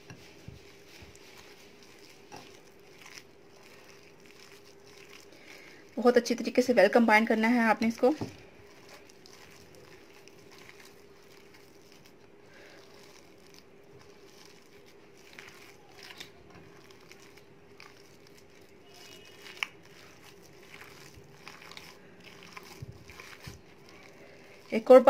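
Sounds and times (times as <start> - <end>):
hands kneading food mixture: 0.0 - 25.0.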